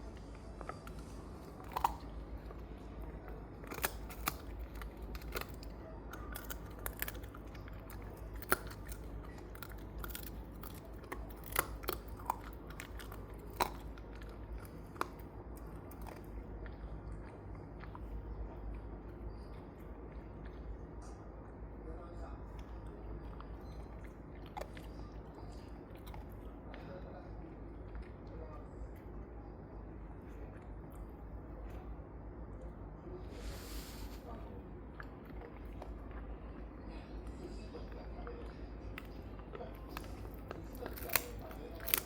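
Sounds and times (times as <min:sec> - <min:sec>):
dog gnawing a bone: 0:00.0 - 0:29.3, 0:34.5 - 0:42.0
steady low hum: 0:00.0 - 0:42.0.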